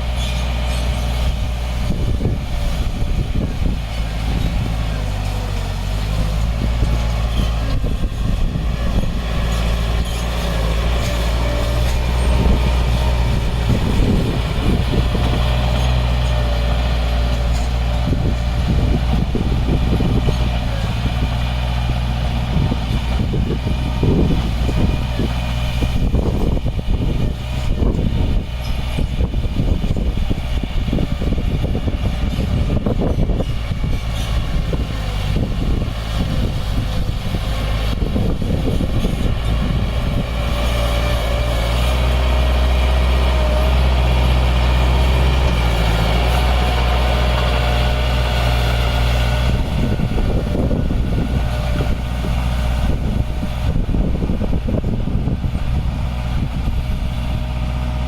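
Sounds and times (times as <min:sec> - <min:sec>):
diesel engine under load: 0:00.0 - 0:58.0
rough rumbling: 0:00.0 - 0:58.0.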